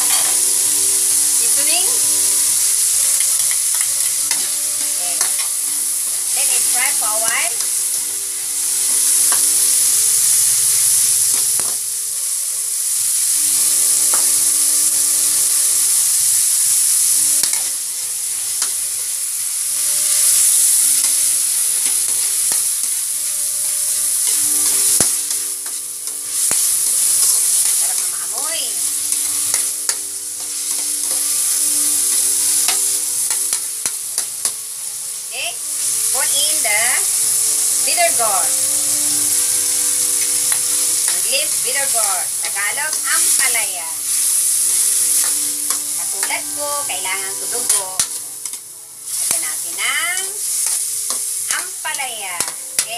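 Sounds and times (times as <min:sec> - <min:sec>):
metal spoon scraping wok: 0:00.0 - 0:11.7, 0:13.4 - 0:17.8, 0:18.4 - 0:34.6, 0:35.7 - 0:52.9
food sizzling in a wok: 0:00.0 - 0:52.9.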